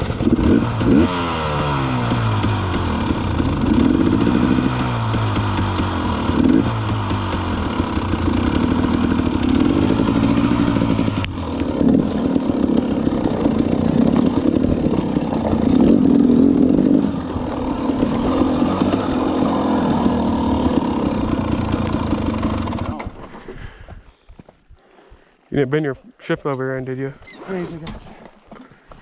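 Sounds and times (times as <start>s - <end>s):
dirt bike engine revving: 0.0s - 23.2s.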